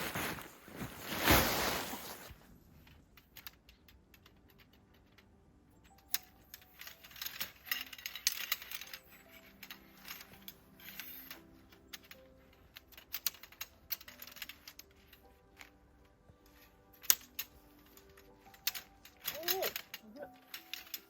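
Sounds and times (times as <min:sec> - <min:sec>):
faint background music: 0:00.0 - 0:21.0
clicks and clinks of handling: 0:02.8 - 0:21.0.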